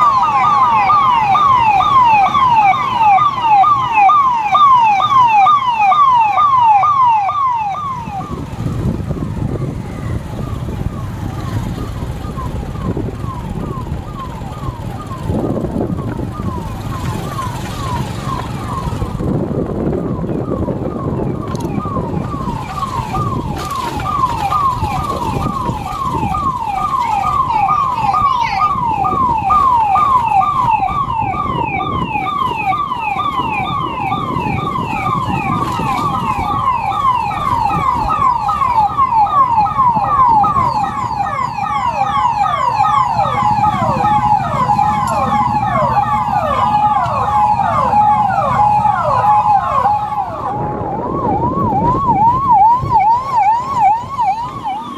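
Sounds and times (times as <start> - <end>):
police siren yelp: 0.0 - 54.9
steady siren tone: 0.0 - 54.9
street noise: 0.0 - 54.9
vehicle engine: 7.8 - 54.9.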